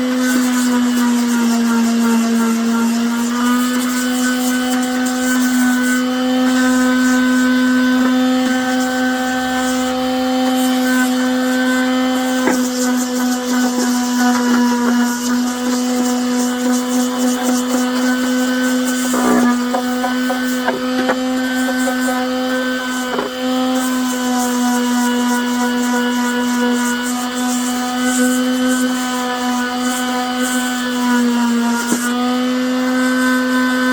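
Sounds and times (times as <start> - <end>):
power tool motor humming: 0.0 - 33.9.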